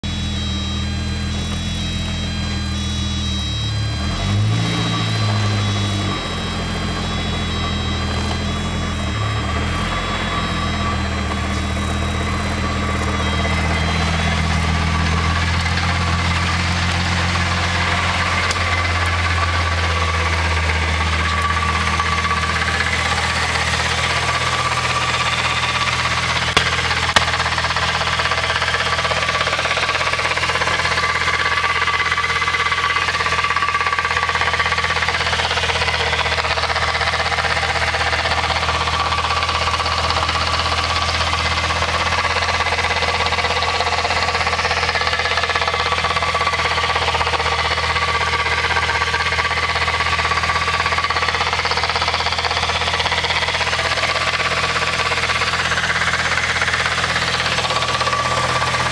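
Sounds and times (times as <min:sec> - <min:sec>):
car engine running: 0:00.0 - 0:58.9
transmission whine: 0:00.0 - 0:58.9.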